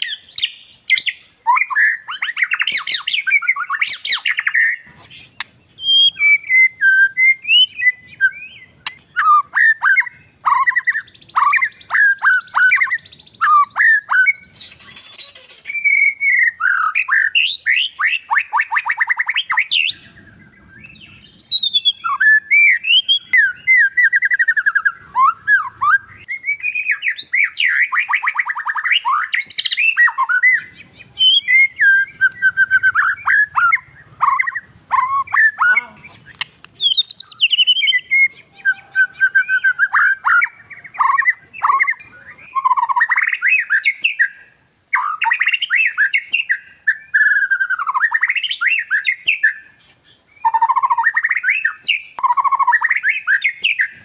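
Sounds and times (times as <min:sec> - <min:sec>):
magpie-robin singing: 0:00.0 - 0:49.8, 0:50.4 - 0:54.0.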